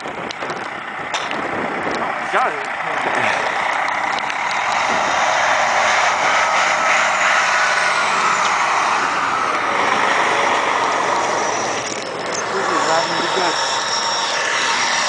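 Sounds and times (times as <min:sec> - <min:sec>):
truck driving on snow: 0:00.0 - 0:15.0.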